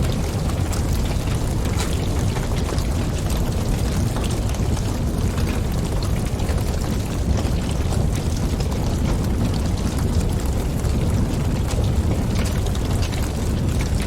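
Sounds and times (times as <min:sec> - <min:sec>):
fire crackling and popping: 0:00.0 - 0:14.0
wind: 0:00.0 - 0:14.0
wood fire burning: 0:00.0 - 0:14.0.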